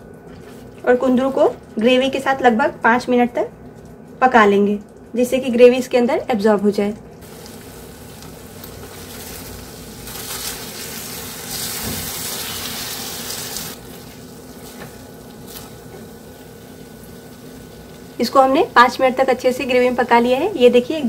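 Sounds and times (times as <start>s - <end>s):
gravy sizzling and bubbling: 0.0s - 21.0s.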